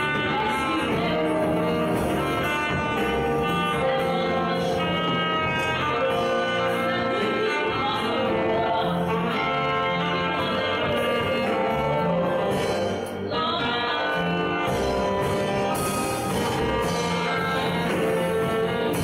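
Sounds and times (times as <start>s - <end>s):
woman singing into a microphone: 0.0s - 14.8s, 16.8s - 19.0s
band accompaniment: 0.0s - 19.0s.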